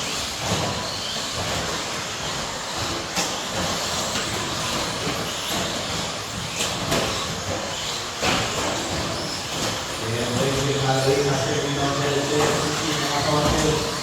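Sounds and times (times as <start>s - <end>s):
toy car motors and tyres: 0.0s - 14.0s.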